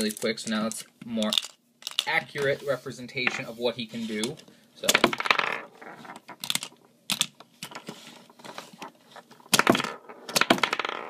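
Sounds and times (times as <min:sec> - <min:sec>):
marbles clattering on cardboard: 0:00.0 - 0:02.2, 0:04.2 - 0:11.0.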